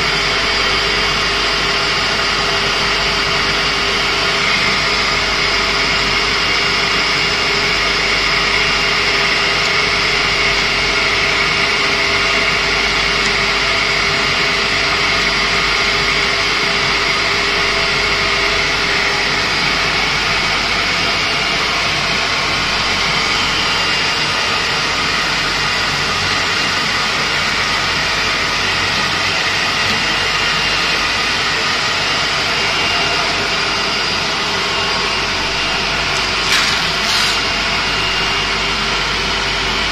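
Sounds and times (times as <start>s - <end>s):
high machine tones: 0.0s - 26.9s, 29.2s - 39.9s
cutting machine drone: 0.0s - 39.9s
low machine tone: 0.0s - 39.9s.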